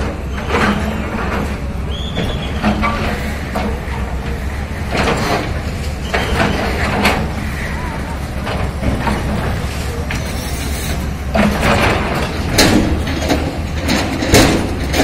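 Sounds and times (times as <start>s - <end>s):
diesel excavator engine rumbling: 0.0s - 15.0s.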